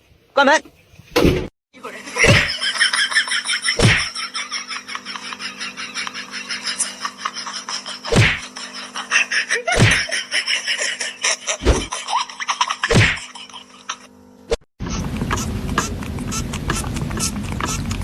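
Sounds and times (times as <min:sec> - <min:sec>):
steady hum: 0:02.1 - 0:18.0.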